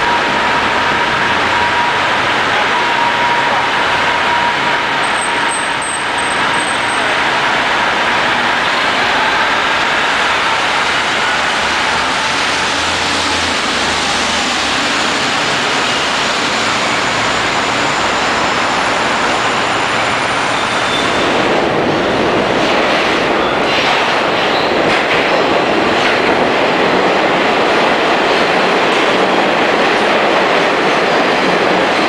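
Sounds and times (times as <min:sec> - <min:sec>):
buses on wet pavement: 0:00.0 - 0:32.0
subway train rumble: 0:00.0 - 0:32.0.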